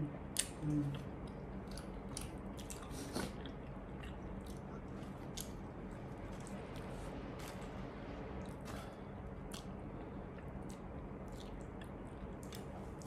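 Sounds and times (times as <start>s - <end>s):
people chewing food: 0.3s - 13.0s.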